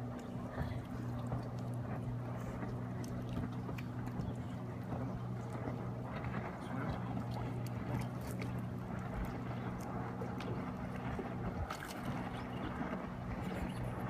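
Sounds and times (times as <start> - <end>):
boat engine idling: 0.0 - 14.0
water splashing and sloshing: 0.0 - 14.0.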